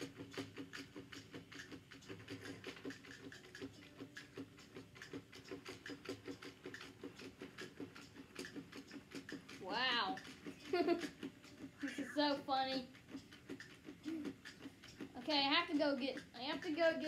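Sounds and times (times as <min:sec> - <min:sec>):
toy wheels ticking: 0:00.0 - 0:17.0.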